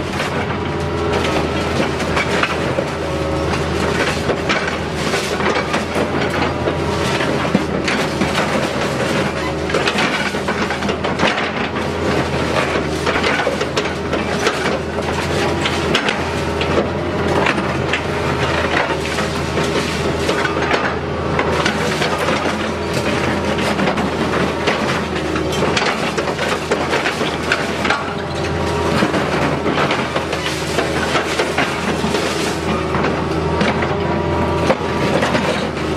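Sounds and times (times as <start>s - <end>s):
concrete cracking and crunching: 0.0s - 35.9s
excavator engine humming: 0.0s - 35.9s.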